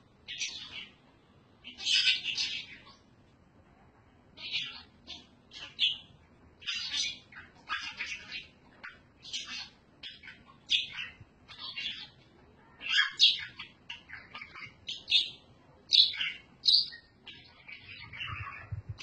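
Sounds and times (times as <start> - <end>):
parrot chirping: 0.2 - 1.0, 1.6 - 3.1, 4.4 - 19.0.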